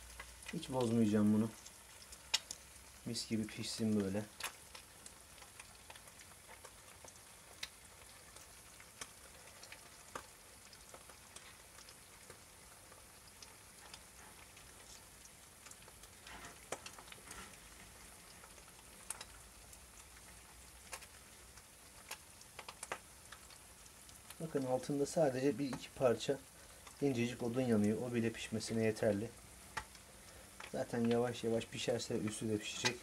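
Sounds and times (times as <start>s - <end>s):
eggs sizzling in a pan: 0.0s - 33.0s
sharp pops from frying: 0.0s - 33.0s.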